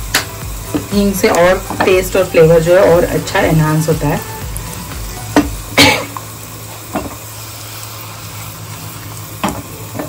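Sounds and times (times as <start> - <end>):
frying in hot oil sizzling: 0.0 - 10.0.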